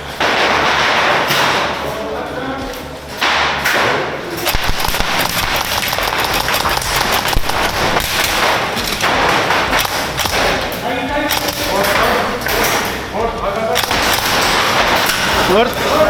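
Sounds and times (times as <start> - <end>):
airsoft guns firing: 0.0 - 16.0.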